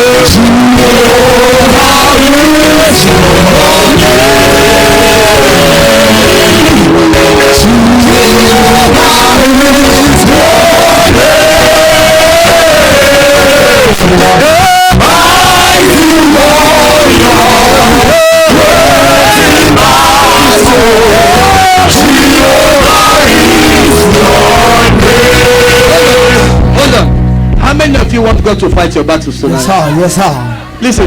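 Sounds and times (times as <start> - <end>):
people singing worship music: 0.0 - 27.3
instrumental backing: 0.0 - 31.0.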